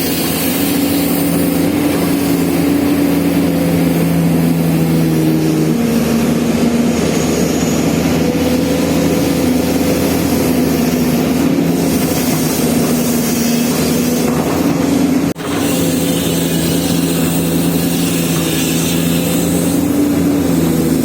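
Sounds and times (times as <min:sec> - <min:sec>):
excavator diesel engine droning: 0:00.0 - 0:21.0.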